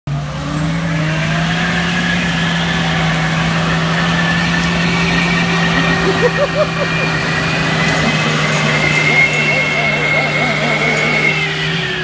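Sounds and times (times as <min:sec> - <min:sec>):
engines revving high: 0:00.1 - 0:12.0
tyres spinning in loose dirt: 0:00.9 - 0:12.0.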